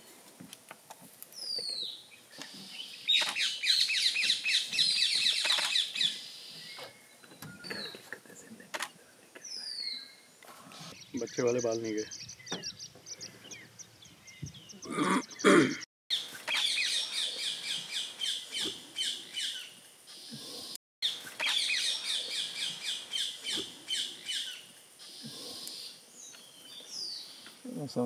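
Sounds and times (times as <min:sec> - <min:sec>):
wild birds chirping: 0:01.3 - 0:28.0.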